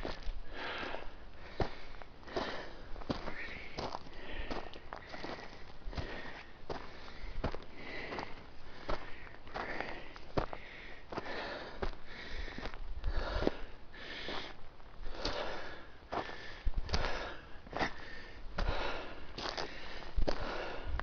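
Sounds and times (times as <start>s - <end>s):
footsteps crunching on loose dirt: 0.0s - 20.9s
person breathing hard: 0.0s - 21.0s.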